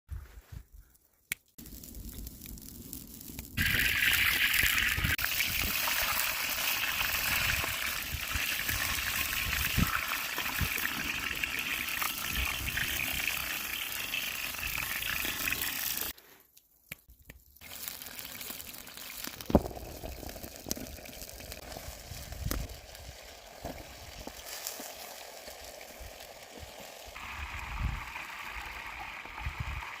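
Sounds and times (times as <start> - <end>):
food sizzling: 1.6 - 16.2, 17.6 - 30.0.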